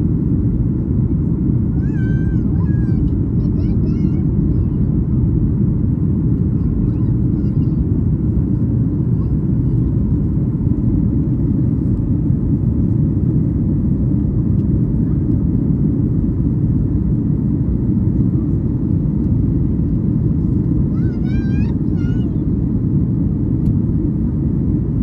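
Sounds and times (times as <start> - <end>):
jet engines rumbling in cabin: 0.0 - 25.0.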